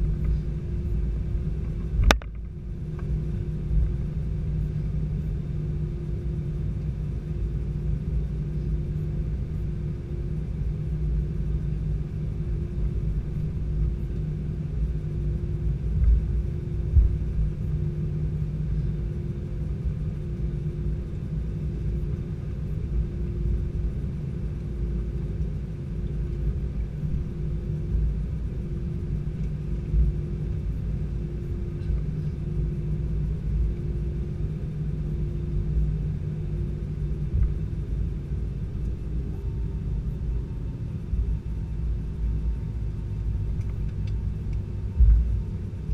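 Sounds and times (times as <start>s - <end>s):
airliner engines idling: 0.0s - 45.9s.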